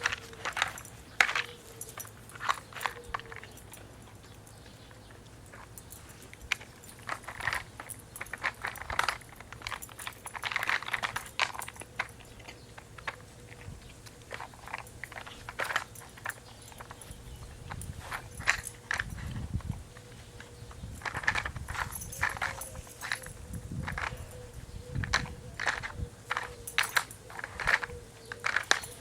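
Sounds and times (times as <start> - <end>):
puzzle toy clicking and clattering: 0.0 - 29.0.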